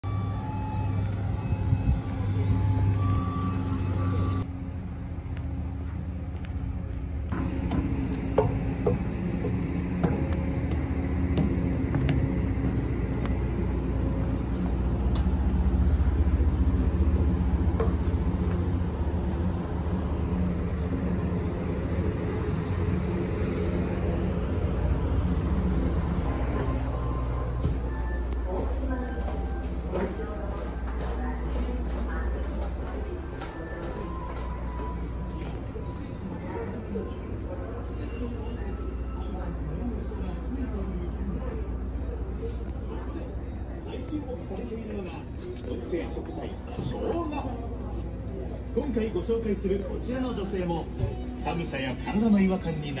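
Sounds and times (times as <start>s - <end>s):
low engine rumble: 0.0s - 53.0s.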